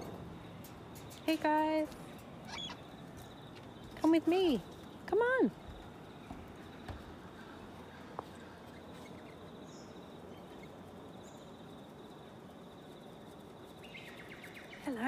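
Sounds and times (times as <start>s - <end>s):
outdoor ambience: 0.0s - 15.0s
faint bird chirps: 2.1s - 15.0s.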